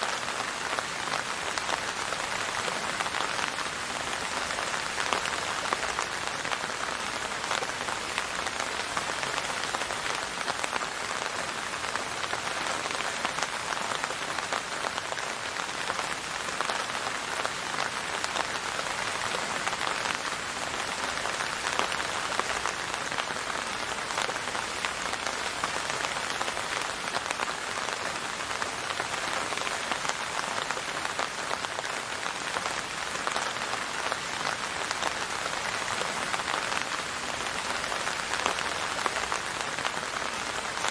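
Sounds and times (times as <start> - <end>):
rain on a hard surface: 0.0 - 40.9.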